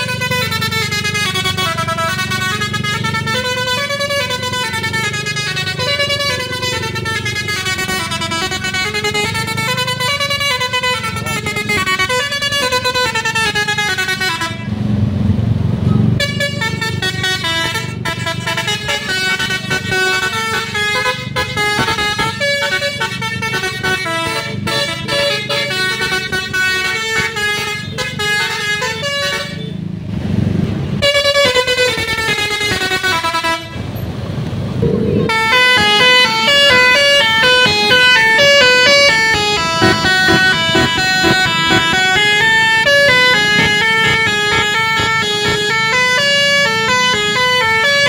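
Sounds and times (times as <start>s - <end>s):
multi-note air horn melody: 0.0s - 14.7s, 16.2s - 29.7s, 31.0s - 33.8s, 35.2s - 48.0s
bus engine rumble: 0.0s - 48.0s.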